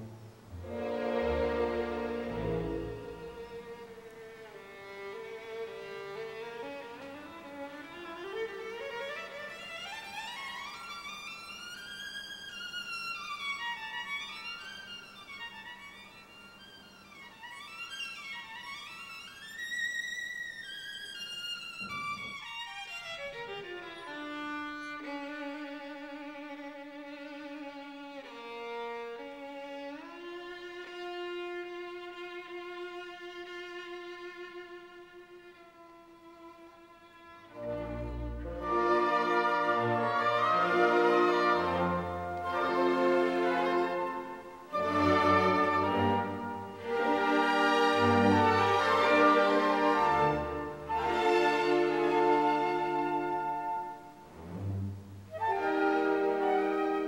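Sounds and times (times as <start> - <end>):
slow bowed string melody: 0.0 - 57.0.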